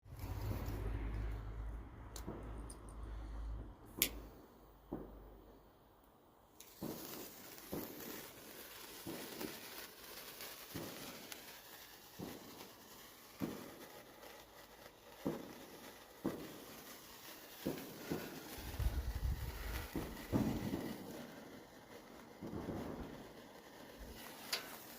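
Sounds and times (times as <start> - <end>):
wood fire crackling: 0.0 - 4.5, 6.4 - 24.9.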